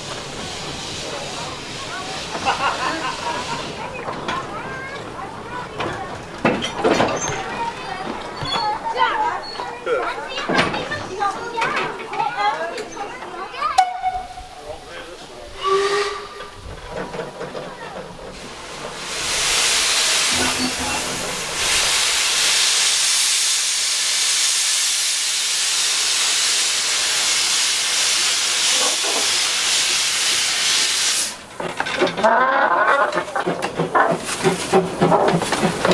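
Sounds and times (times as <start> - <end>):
steam locomotive hissing steam: 0.0 - 31.6.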